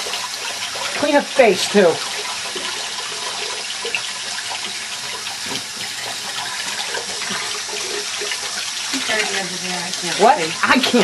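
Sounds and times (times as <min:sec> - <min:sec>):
tap water running and splashing: 0:00.0 - 0:11.0.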